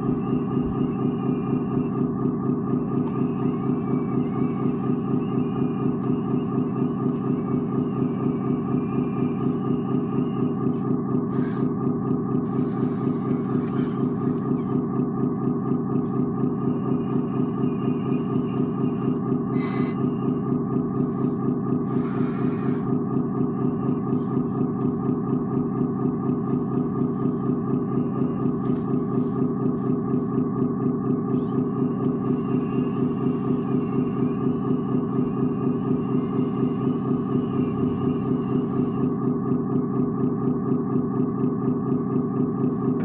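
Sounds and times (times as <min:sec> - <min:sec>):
diesel engine idling through speaker: 0:00.0 - 0:43.0.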